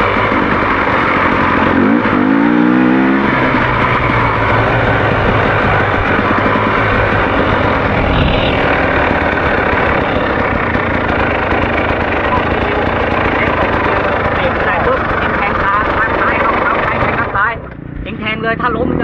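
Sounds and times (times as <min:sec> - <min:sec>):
dirt bike engine running: 0:00.0 - 0:19.0
loud steady rushing noise: 0:00.0 - 0:19.0.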